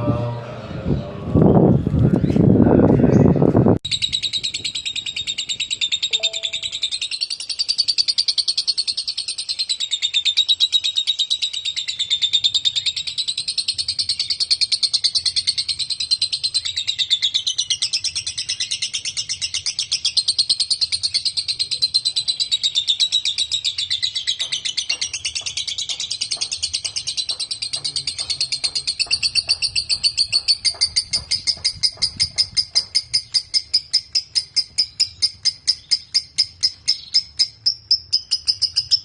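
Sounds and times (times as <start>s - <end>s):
lovebird chattering trill: 3.8s - 39.0s.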